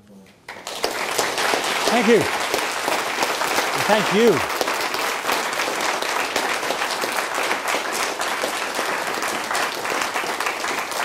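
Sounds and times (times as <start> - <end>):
audience applauding: 0.5 - 11.0.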